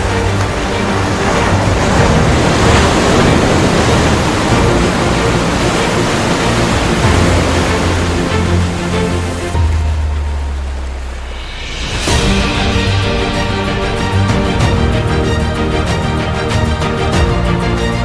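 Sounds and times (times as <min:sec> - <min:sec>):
loud steady rushing noise: 0:00.0 - 0:18.0.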